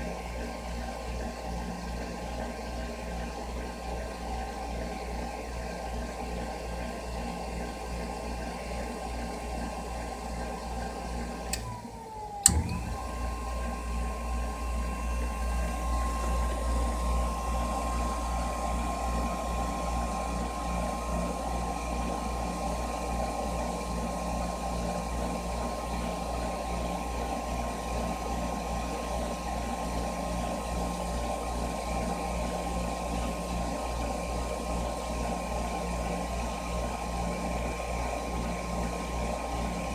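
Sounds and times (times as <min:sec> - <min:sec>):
furnace humming: 0:00.0 - 0:39.9.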